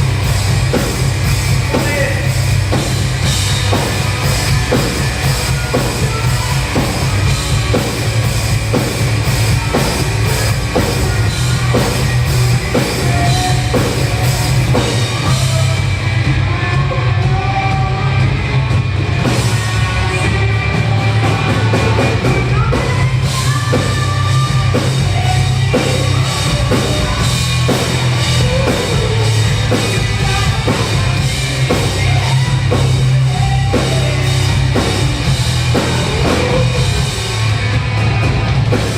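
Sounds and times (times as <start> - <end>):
rock band playing loud: 0.0 - 38.9.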